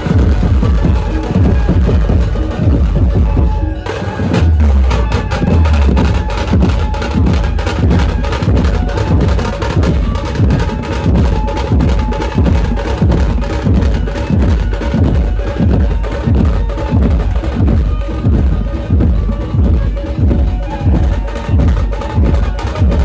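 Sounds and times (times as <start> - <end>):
fast dense band drumming: 0.0 - 23.0.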